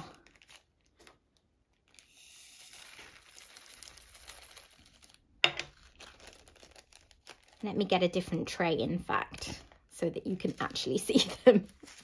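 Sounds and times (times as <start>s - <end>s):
plastic bag rustling: 0.0s - 8.4s, 9.1s - 12.0s.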